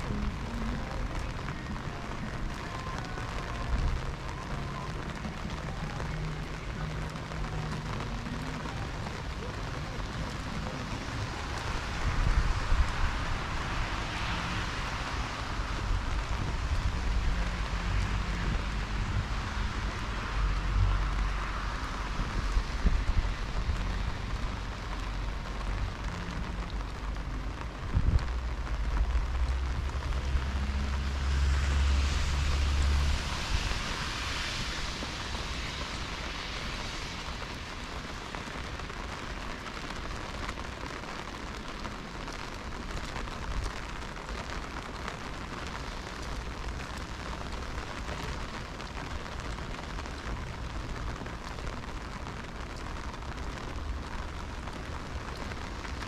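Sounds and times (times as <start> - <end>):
heavy rain on street: 0.0 - 56.0.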